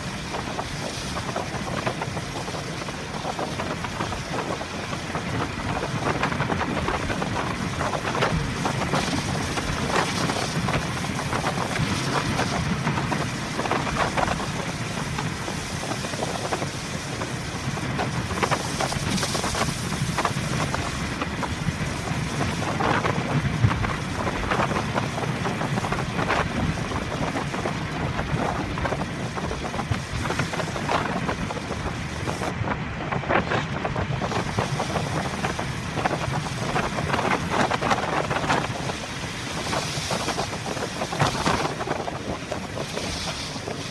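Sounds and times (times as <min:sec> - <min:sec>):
wet road noise: 0:00.0 - 0:43.9
wind rushing: 0:00.0 - 0:43.9.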